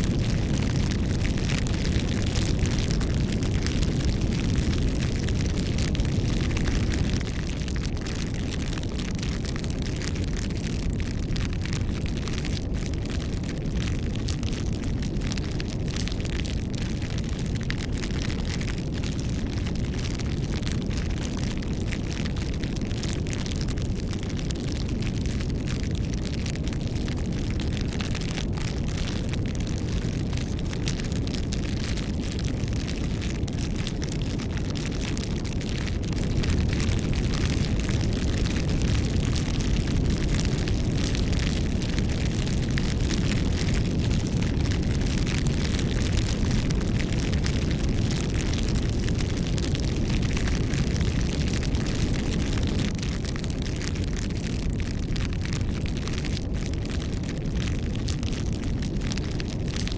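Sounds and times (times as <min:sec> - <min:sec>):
burning wood crackling: 0:00.0 - 0:59.9
flames rumbling: 0:00.0 - 0:59.9.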